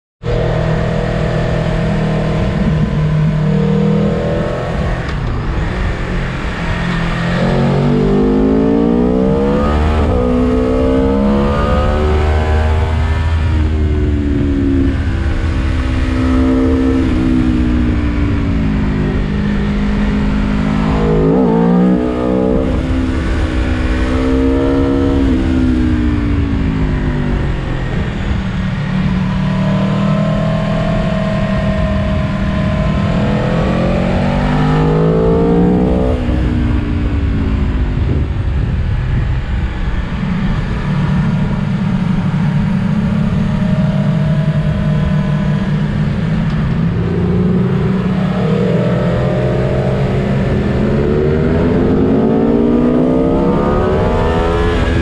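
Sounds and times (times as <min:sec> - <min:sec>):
motorcycle engine revving: 0:00.2 - 0:55.0
wind rush: 0:01.7 - 0:55.0.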